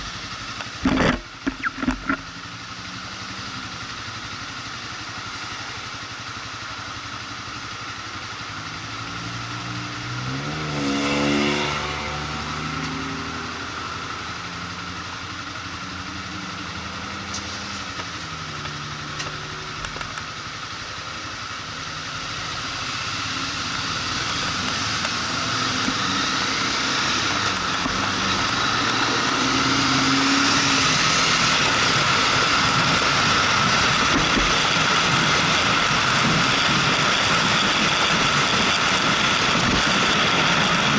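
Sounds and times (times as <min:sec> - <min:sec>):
motorcycle engine revving: 0:00.0 - 0:40.9
rushing wind and road noise: 0:00.0 - 0:40.9.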